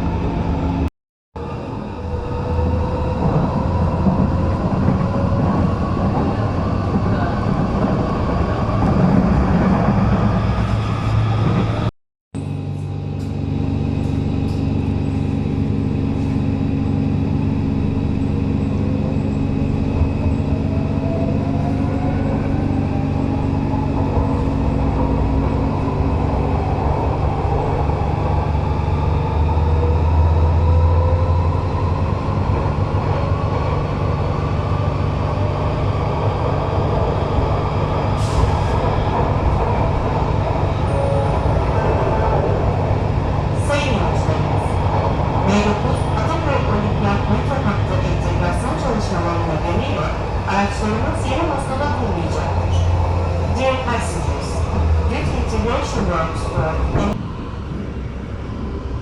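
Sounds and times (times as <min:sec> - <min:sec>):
train low hum: 0:00.0 - 0:59.0.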